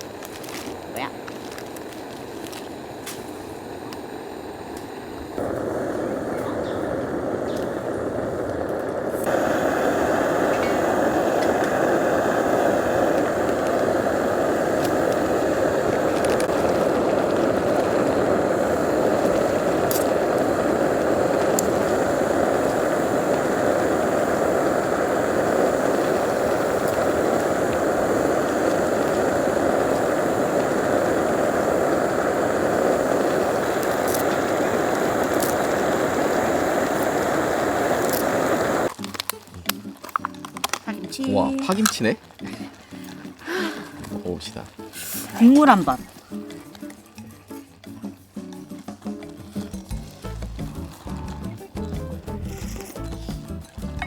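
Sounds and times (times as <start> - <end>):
pot boiling with bubbling hiss: 0.0 - 54.0.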